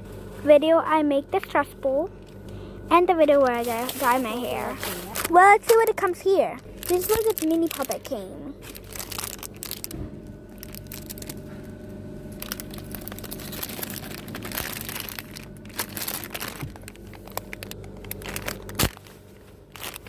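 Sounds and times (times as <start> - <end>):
steady low hum: 0.0 - 20.0
plastic packaging crinkling: 3.3 - 20.0.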